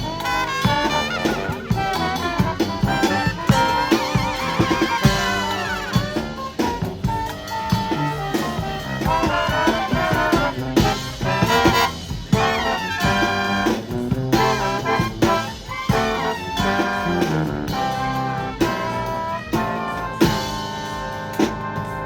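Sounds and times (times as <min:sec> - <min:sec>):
brass band playing jazzy tune: 0:00.0 - 0:22.0.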